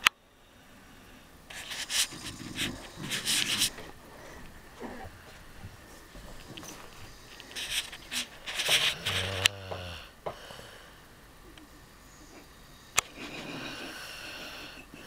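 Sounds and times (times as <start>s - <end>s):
noisy hissing breaths: 0.0s - 15.0s
low buzzing snore: 0.4s - 5.1s, 6.9s - 15.0s.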